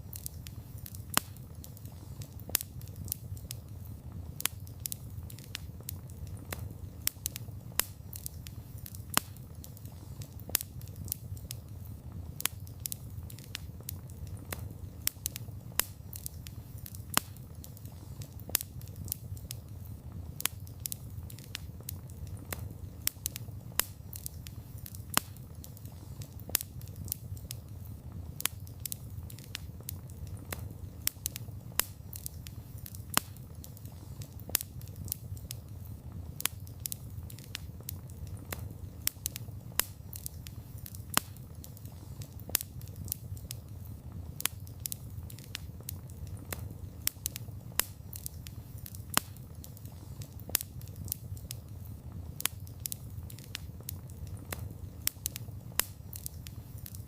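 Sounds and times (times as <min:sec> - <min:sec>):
fire crackling and popping: 0:00.0 - 0:57.0
fire low rumble: 0:00.0 - 0:57.0.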